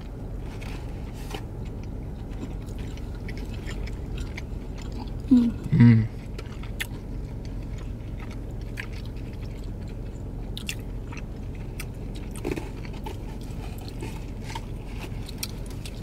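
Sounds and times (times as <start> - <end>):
car cabin hum: 0.0 - 16.0
people chewing: 0.4 - 16.0.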